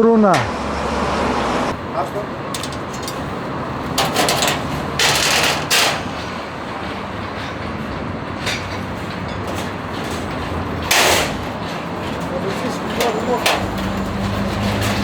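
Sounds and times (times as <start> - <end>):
clicks and knocks: 2.5 - 15.0.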